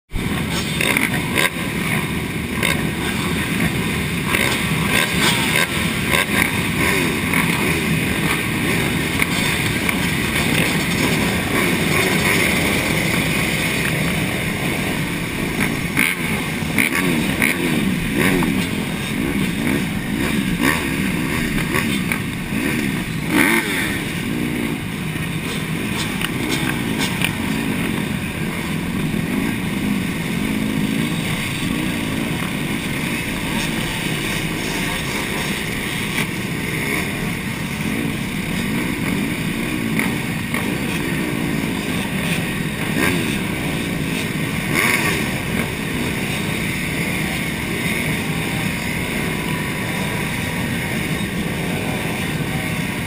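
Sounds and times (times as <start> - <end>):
close motorcycle engine: 0.1 - 53.0
dirt bike engines revving: 0.1 - 53.0.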